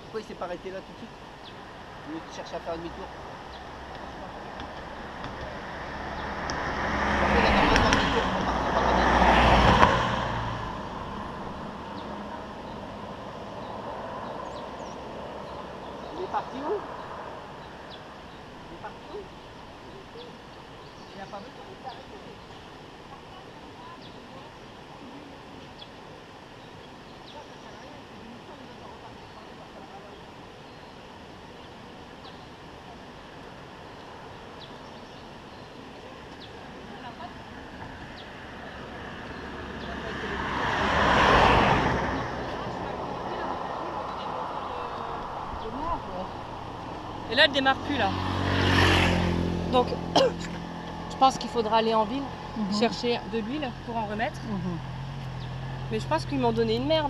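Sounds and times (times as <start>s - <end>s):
road background noise: 0.0s - 57.0s
vehicle passing close by: 1.7s - 24.6s, 33.7s - 57.0s.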